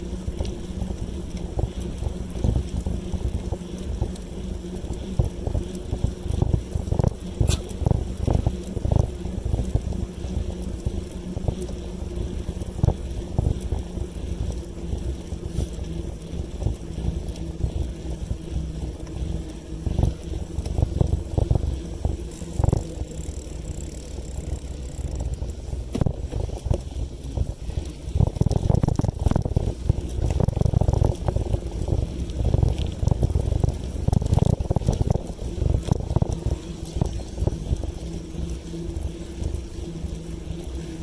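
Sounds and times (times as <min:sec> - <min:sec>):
bicycle clicks and rattles: 0:00.0 - 0:41.0
wind buffeting microphone: 0:00.0 - 0:41.0.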